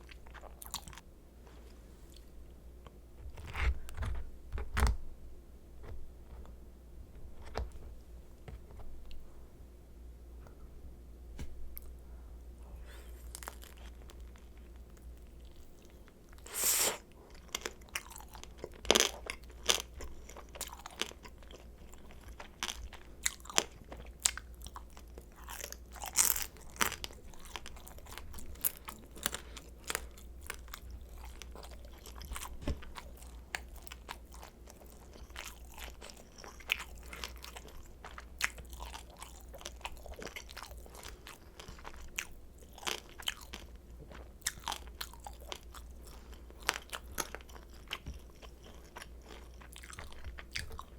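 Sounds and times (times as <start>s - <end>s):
crunching and chewing dumplings: 0.0s - 5.0s, 12.6s - 50.9s.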